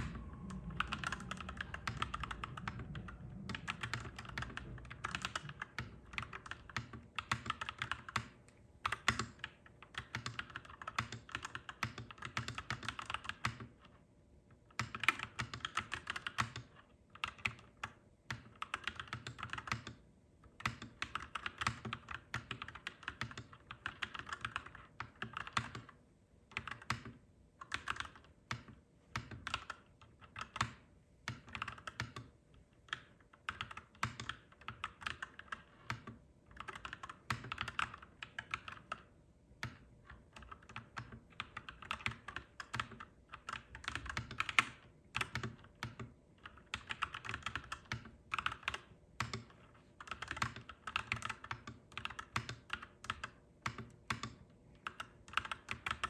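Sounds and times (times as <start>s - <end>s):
mechanical keyboard typing: 0.0s - 14.0s, 14.7s - 20.0s, 20.6s - 56.0s.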